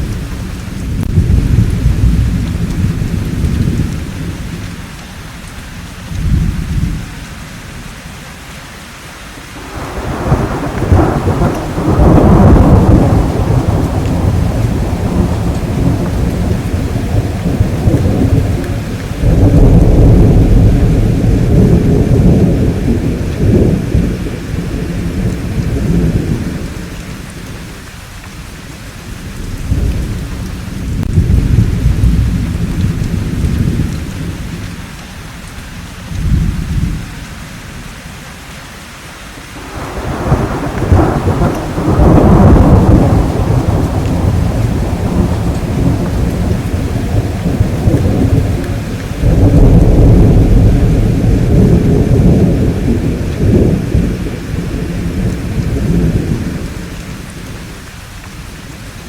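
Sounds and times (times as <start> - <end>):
rolling thunder: 0.0 - 4.8, 9.6 - 27.8, 29.0 - 34.8, 36.1 - 37.1, 39.6 - 57.8
steady rain: 0.0 - 59.0.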